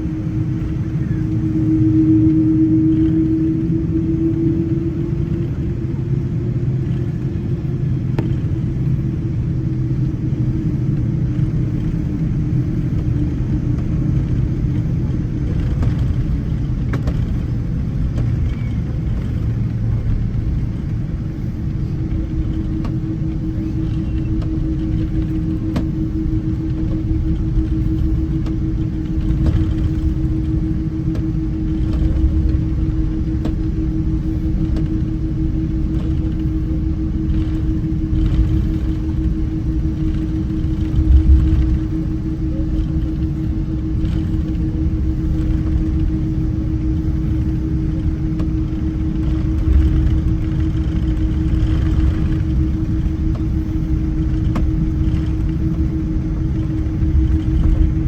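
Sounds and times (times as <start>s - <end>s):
airplane cabin low rumble: 0.0s - 58.0s
steady hum: 0.0s - 58.0s.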